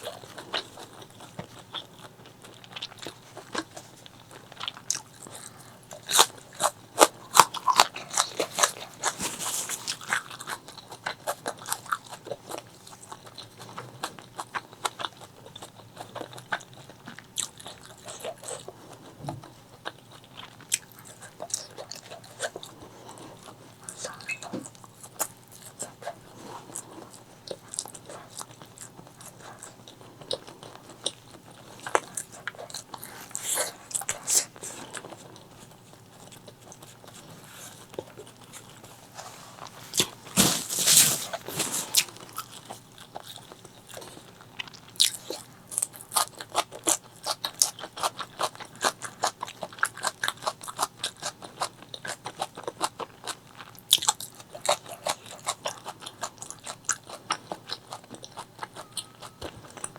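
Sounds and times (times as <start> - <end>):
close-miked chewing and crunching: 0.0 - 59.9.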